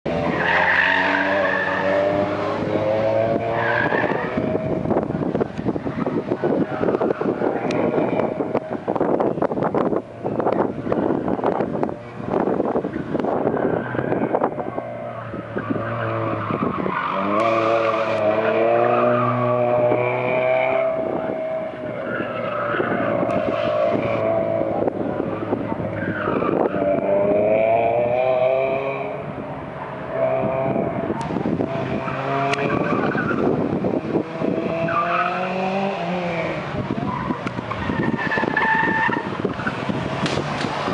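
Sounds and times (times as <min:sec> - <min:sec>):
car engine under load: 0:00.0 - 0:40.9
tires squealing: 0:00.1 - 0:40.9
rough crackling engine noise: 0:01.0 - 0:40.9.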